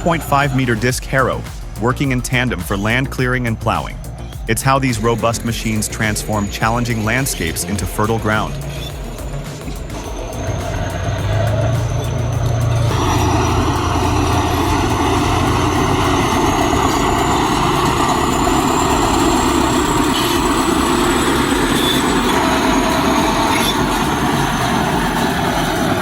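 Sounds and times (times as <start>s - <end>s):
diesel machinery engines running: 0.0s - 26.0s
faint high whine: 0.0s - 26.0s.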